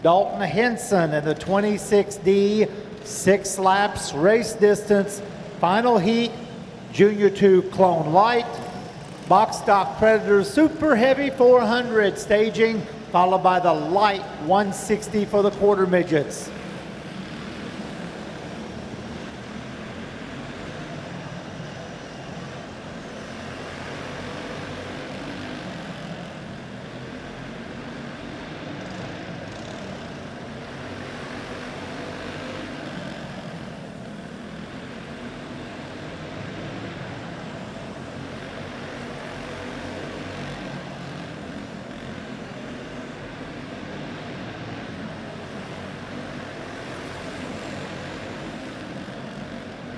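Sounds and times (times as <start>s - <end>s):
race car engines droning: 0.0s - 49.9s.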